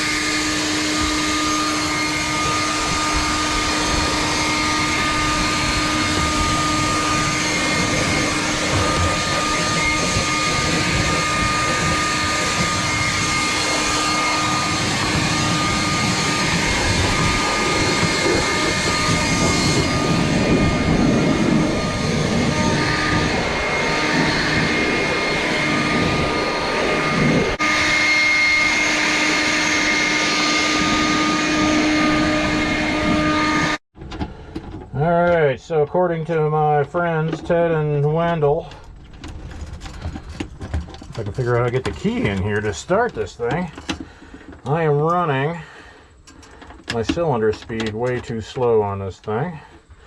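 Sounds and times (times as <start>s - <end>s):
grain elevator hum and whine: 0.0s - 50.0s.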